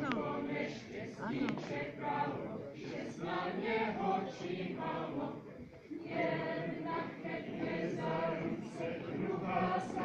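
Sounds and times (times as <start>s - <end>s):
group singing in unison: 0.0s - 10.0s.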